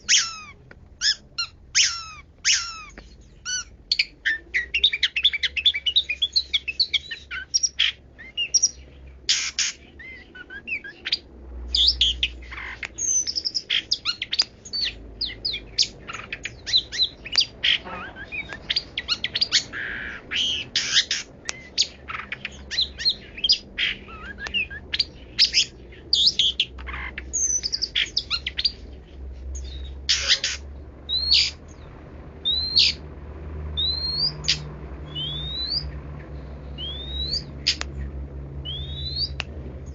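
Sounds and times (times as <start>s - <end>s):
bird singing varied chirps and whistles: 0.0s - 33.1s, 33.7s - 39.9s.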